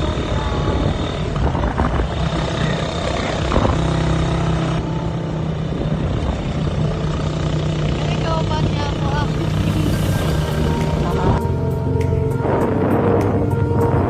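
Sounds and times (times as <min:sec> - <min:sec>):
wind rushing over microphone: 0:00.0 - 0:07.0, 0:08.5 - 0:14.0
motorcycle engine running: 0:00.0 - 0:14.0.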